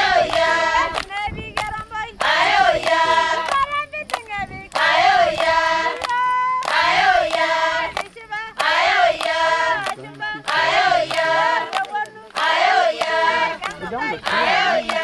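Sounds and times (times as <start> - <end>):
hand claps: 0.0 - 15.0
women and children singing in chorus: 0.0 - 15.0.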